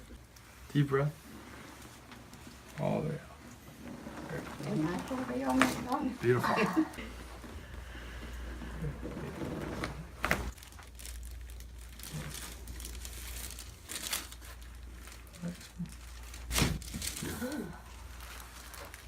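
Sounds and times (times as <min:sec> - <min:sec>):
steady low hum: 0:00.0 - 0:19.0
crinkling and rustling: 0:00.1 - 0:19.0.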